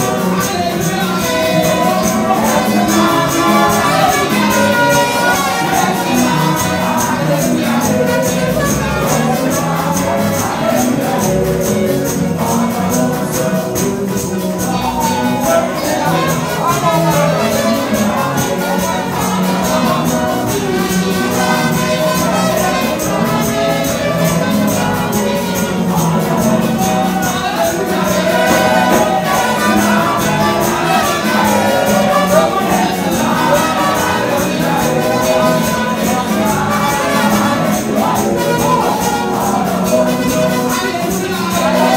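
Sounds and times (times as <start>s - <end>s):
instrumental backing: 0.0s - 41.9s
steady percussion beat: 0.0s - 41.9s
voices singing through microphones: 0.0s - 41.9s.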